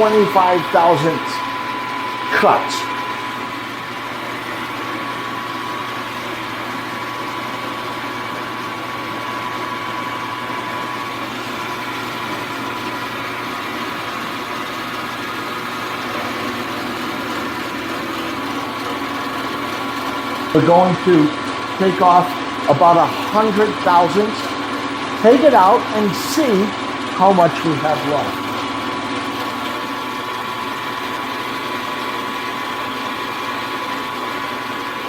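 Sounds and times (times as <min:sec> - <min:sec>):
milling machine whining: 0:00.0 - 0:35.0.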